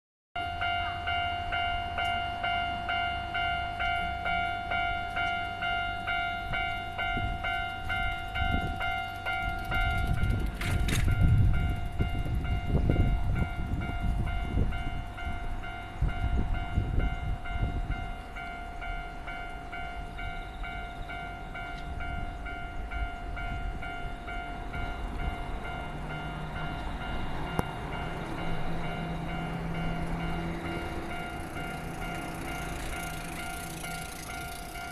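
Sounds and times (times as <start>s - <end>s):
level-crossing warning bell ringing: 0.4s - 34.9s
train rumbling and clattering: 0.6s - 34.9s.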